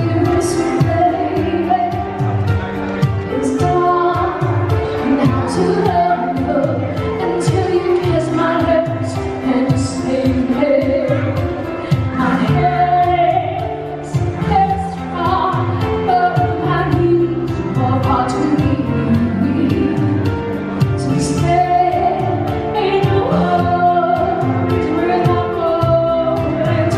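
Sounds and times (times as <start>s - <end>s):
backing track with beat: 0.0s - 26.9s
person singing pop ballad: 0.0s - 26.9s.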